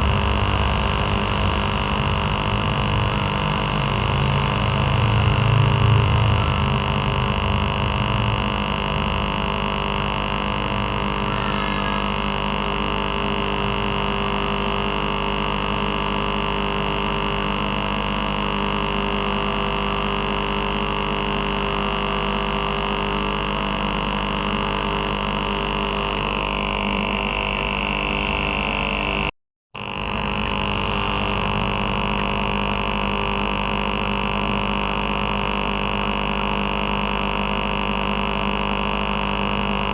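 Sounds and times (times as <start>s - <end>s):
aquarium air pump humming: 0.0s - 39.9s.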